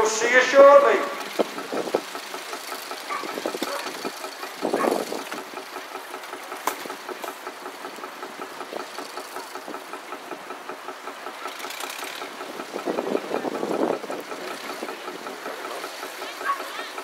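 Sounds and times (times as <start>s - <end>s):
tractor engines idling: 0.0s - 17.0s.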